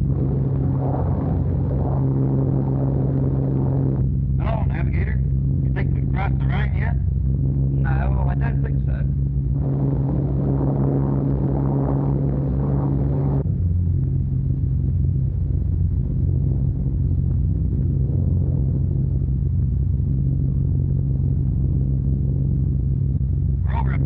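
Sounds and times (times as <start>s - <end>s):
aircraft engines droning: 0.0s - 24.0s.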